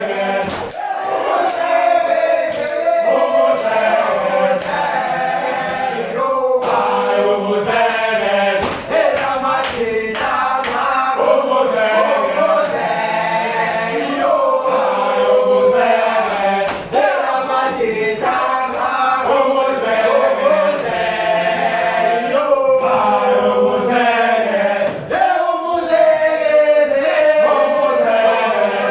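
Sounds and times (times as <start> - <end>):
group singing a chant-like song: 0.0 - 28.9.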